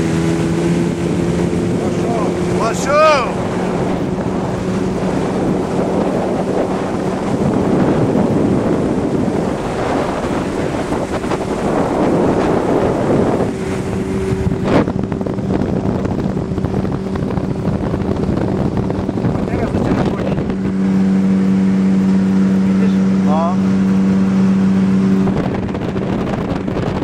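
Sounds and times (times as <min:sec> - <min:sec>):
outboard motor drone: 0:00.0 - 0:27.0
wind buffeting on microphone: 0:00.0 - 0:27.0.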